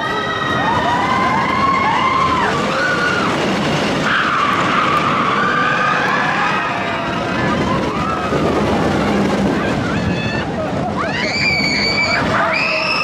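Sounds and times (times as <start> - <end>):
riders screaming and whooping: 0.0 - 13.0
rush of moving train and wind: 0.0 - 13.0.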